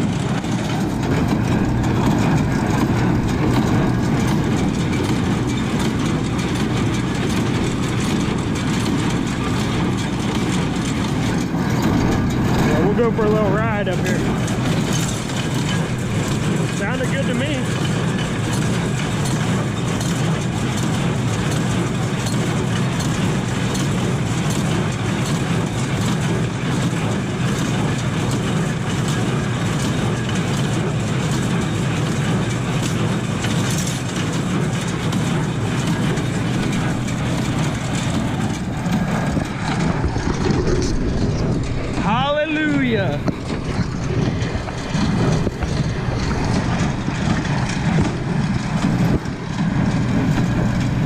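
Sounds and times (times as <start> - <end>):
baler mechanism clattering: 0.0 - 51.0
tractor running: 0.0 - 51.0.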